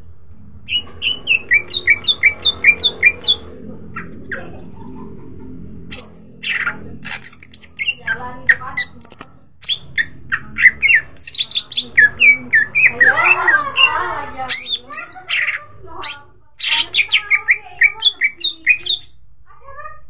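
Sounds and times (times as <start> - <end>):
steady low hum: 0.0 - 19.4
bird singing: 0.6 - 19.2.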